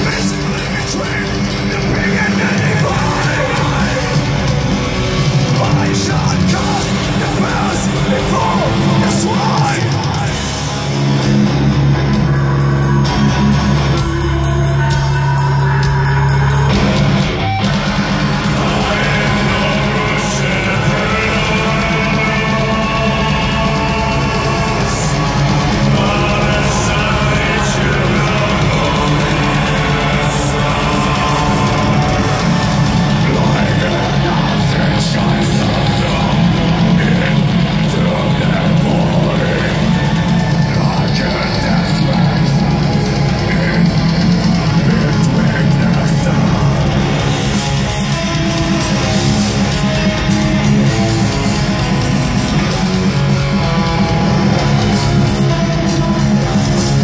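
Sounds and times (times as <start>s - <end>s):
distorted guitars: 0.0s - 57.0s
harsh vocals: 0.0s - 57.0s
pounding drums: 0.0s - 57.0s.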